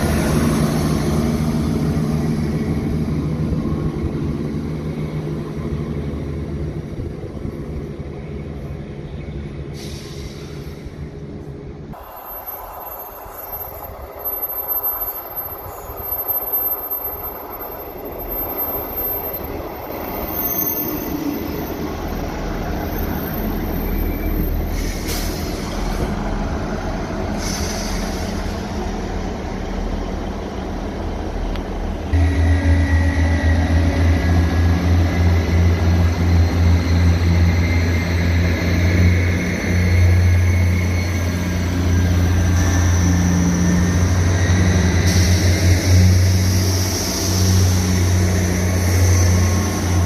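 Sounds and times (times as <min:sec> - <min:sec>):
diesel train engine: 0:00.0 - 0:50.0
train passing low drone: 0:00.0 - 0:50.0.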